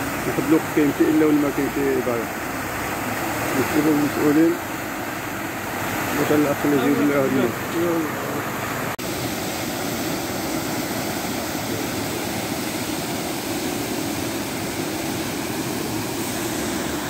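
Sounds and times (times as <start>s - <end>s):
water gushing and splashing: 0.0s - 17.0s.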